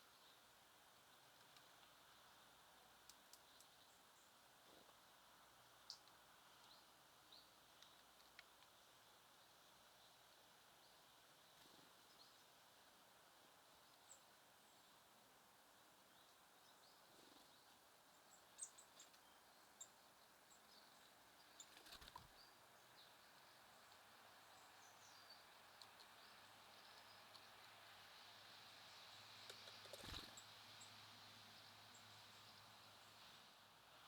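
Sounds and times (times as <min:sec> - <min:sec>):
small songbirds chirping: 0:00.0 - 0:34.0.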